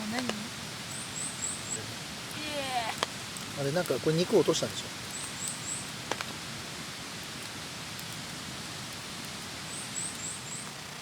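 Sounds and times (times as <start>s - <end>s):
light rain hiss: 0.0s - 11.0s.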